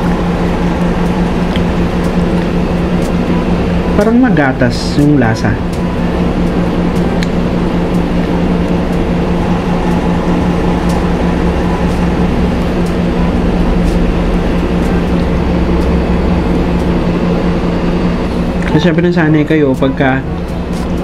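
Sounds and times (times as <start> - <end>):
loud machine hum: 0.0 - 21.0.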